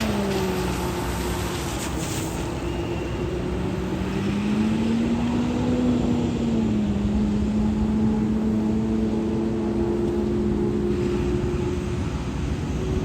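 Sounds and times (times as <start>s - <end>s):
trucks engine and tyre drone: 0.0s - 13.0s.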